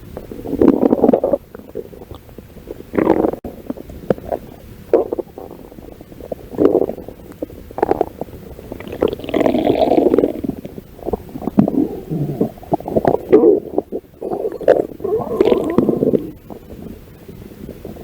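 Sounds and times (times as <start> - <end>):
stomach growling: 0.1 - 18.0.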